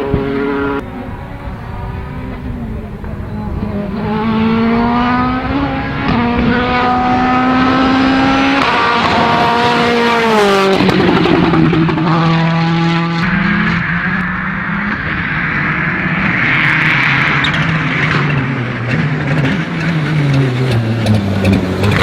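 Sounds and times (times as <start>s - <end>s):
exhaust crackling: 0.0s - 22.0s
rally car engine revving: 0.0s - 22.0s.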